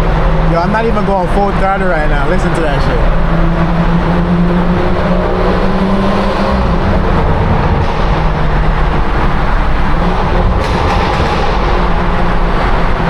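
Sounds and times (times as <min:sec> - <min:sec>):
car engine at full throttle: 0:00.0 - 0:13.0
loud exhaust echoing in tunnel: 0:00.0 - 0:13.0.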